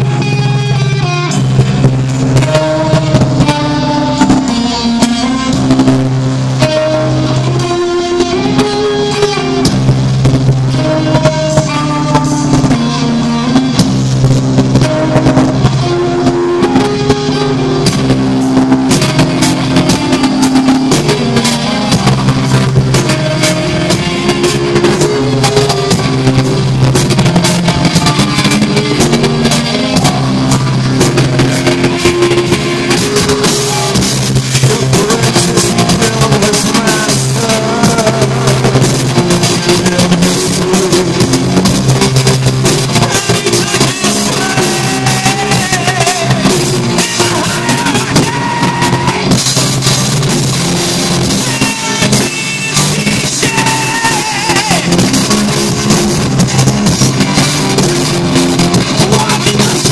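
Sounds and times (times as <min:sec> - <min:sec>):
distorted electric guitar riffs: 0:00.0 - 0:59.9
drum kit playing: 0:00.0 - 0:59.9.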